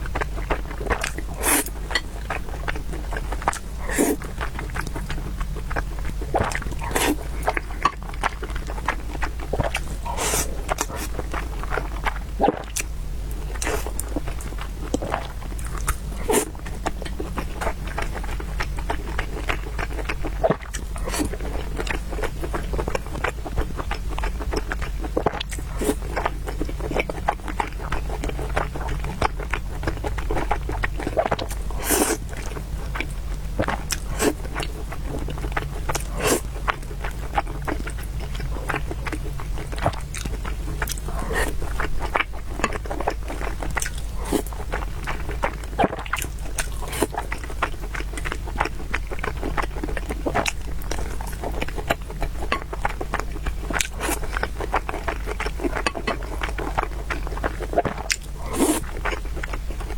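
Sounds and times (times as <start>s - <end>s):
chewing and biting food: 0.0s - 59.9s
steady low hum: 0.0s - 59.9s.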